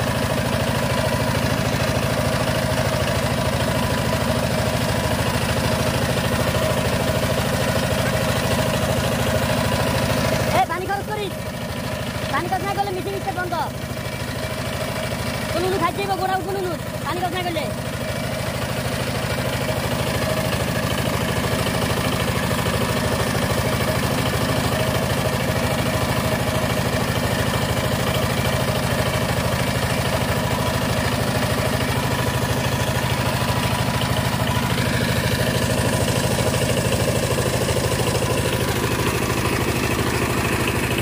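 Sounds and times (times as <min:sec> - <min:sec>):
diesel tiller engine chugging: 0:00.0 - 0:41.0.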